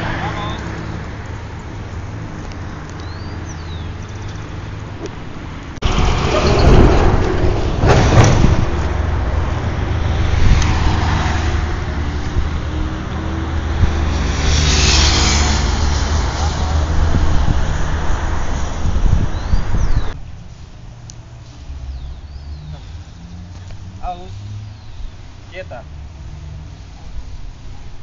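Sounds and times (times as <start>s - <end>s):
road traffic hum: 0.0s - 28.0s
vehicle rushing past: 0.0s - 28.0s.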